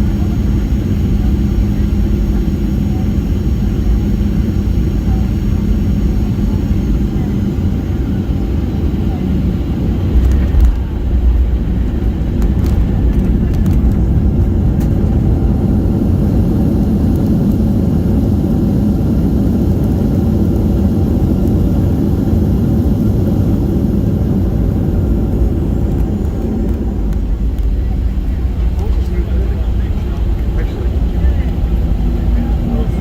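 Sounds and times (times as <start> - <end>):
airplane cabin rumble: 0.0 - 33.0.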